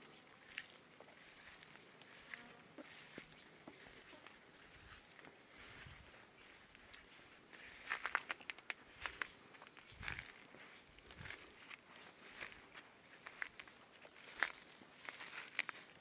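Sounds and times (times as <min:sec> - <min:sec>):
faint high insect chirp: 0:00.0 - 0:16.0
footsteps through leafy undergrowth: 0:00.0 - 0:16.0.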